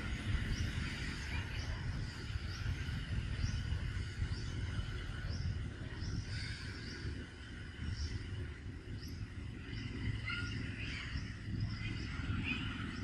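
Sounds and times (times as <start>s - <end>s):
steady high drone: 0.0s - 13.0s.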